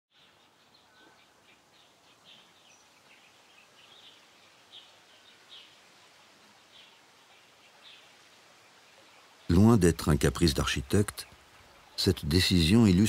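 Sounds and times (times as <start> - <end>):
small birds chirping: 0.1 - 13.0
quiet hiss: 0.2 - 13.0.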